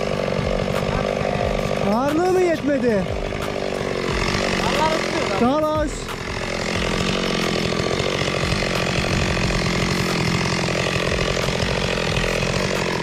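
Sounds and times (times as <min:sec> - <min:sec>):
chainsaw cutting tree: 0:00.0 - 0:13.0.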